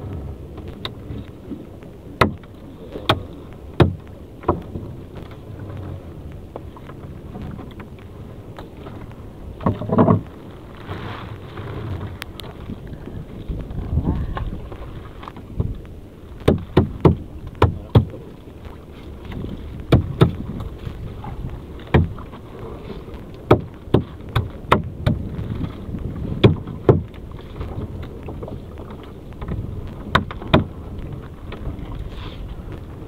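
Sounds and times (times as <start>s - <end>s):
knocks and clatter on wooden boat: 0.0s - 33.0s
low steady rumble: 0.0s - 33.0s.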